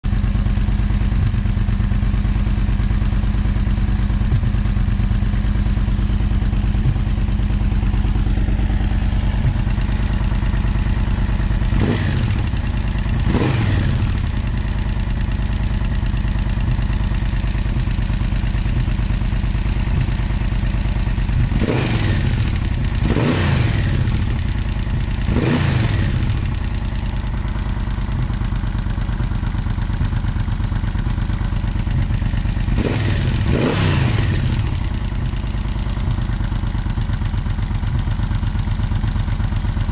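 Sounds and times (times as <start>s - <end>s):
motorcycle engine idling with rattle: 0.0s - 39.9s.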